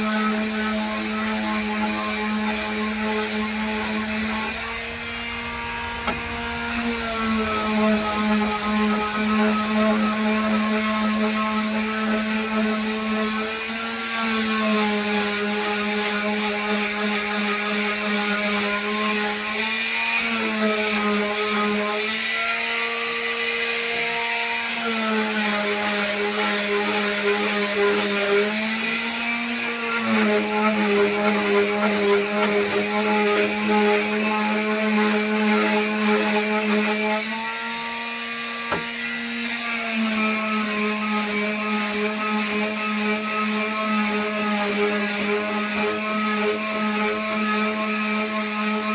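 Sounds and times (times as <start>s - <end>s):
electric sander on wood: 0.0s - 48.9s.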